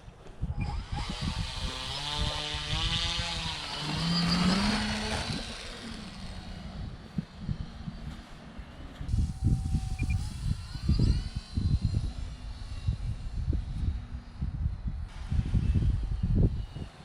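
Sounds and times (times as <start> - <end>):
model airplane motor and propeller: 0.0 - 17.0
wind buffeting microphone: 0.0 - 17.0.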